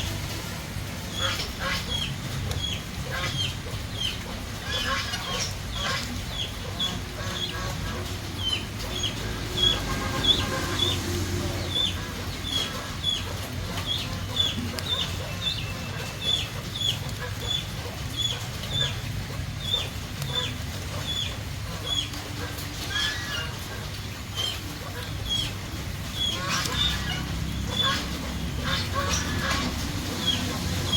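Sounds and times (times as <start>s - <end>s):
chicken calls: 1.0s - 30.9s
chicks peeping: 1.0s - 30.9s.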